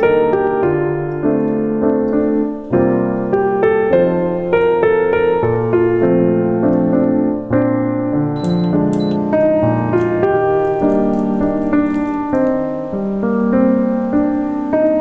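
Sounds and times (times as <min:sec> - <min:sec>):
calm solo piano piece: 0:00.0 - 0:15.0.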